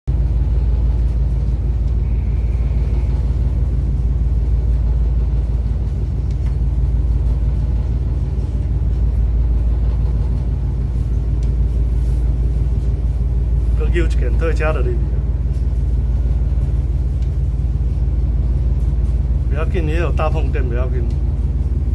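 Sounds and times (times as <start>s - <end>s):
ship engine droning: 0.1s - 21.9s.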